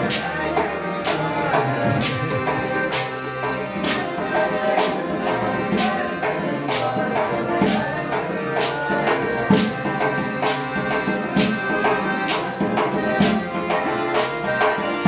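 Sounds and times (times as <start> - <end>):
group singing folk song: 0.0 - 15.0
frame drum beat: 0.6 - 13.9.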